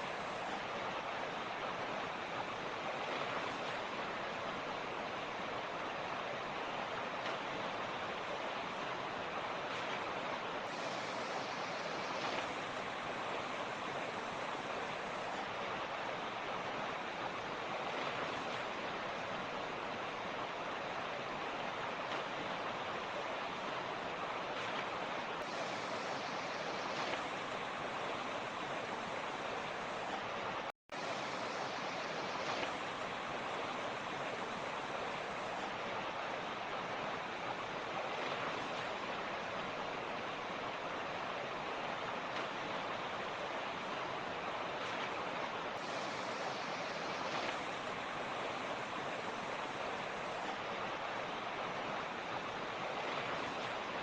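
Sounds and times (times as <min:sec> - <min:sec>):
creek rushing over stones: 0:00.0 - 0:54.0.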